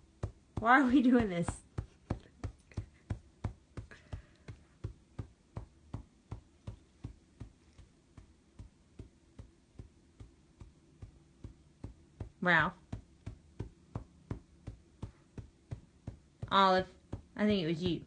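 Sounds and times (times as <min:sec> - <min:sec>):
dog tail thumping on bedding: 0:00.0 - 0:18.0.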